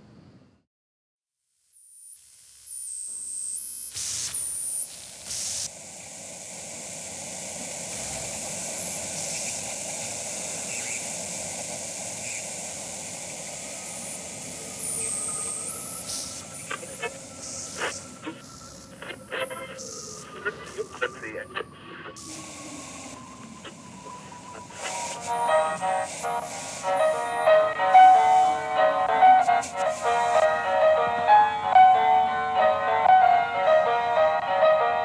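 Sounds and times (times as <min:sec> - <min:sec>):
hissing static: 0:01.7 - 0:31.8
high whine changing pitch: 0:01.7 - 0:33.2.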